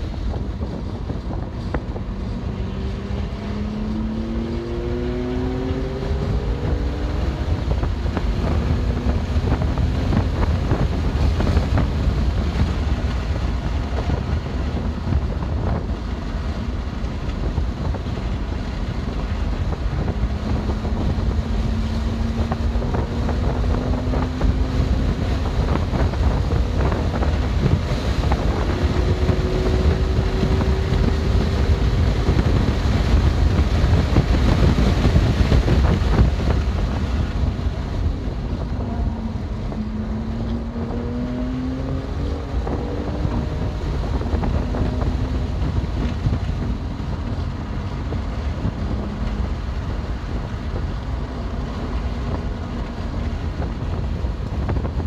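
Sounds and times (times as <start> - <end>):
faint car engine: 0.0 - 55.0
road rumble: 0.0 - 55.0
wind noise on microphone: 0.0 - 55.0.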